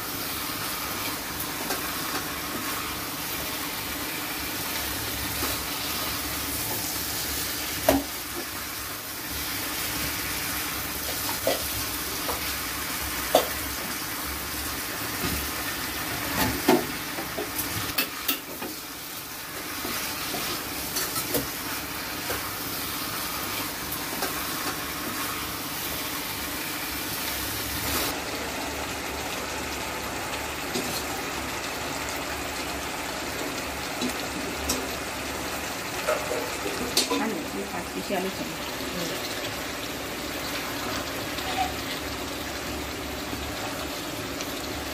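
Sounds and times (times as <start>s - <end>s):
chicken sizzling in a pan: 0.0s - 44.9s.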